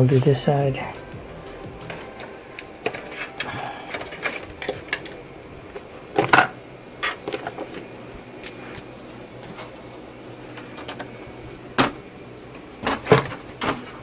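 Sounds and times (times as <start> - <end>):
parts clicking and rattling: 0.0 - 14.0.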